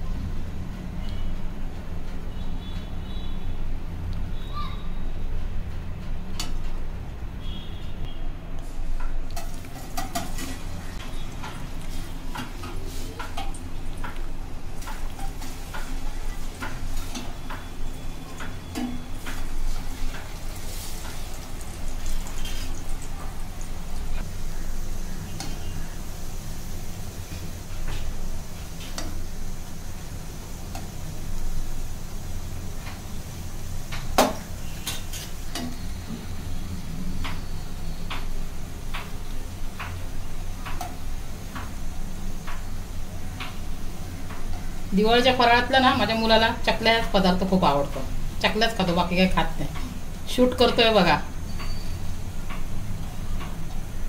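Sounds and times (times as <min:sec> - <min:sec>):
food deep-frying in oil: 0:07.4 - 0:54.0.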